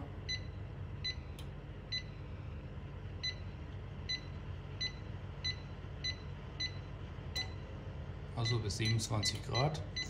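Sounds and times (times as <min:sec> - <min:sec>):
fan humming: 0:00.0 - 0:10.0.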